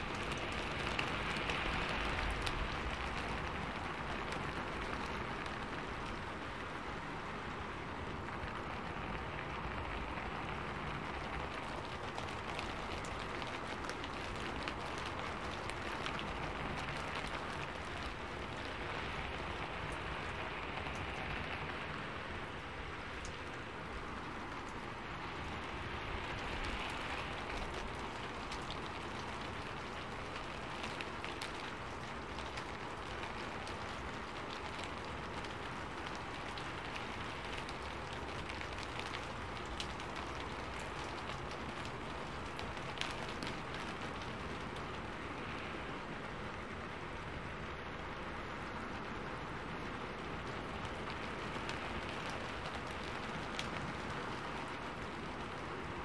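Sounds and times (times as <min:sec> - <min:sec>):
raindrops tapping: 0:00.0 - 0:56.0
steady rainfall: 0:00.0 - 0:56.0.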